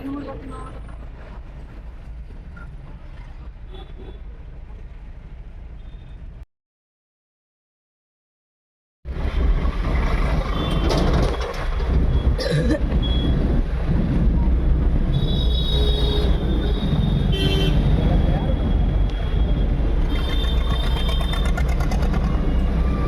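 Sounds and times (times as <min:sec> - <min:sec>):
road traffic rumble: 0:00.0 - 0:06.4, 0:09.1 - 0:23.0.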